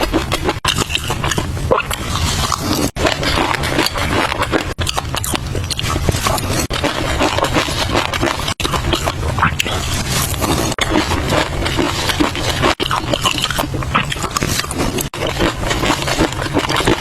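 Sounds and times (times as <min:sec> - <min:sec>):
wet chewing with crackling clicks: 0:00.0 - 0:17.0.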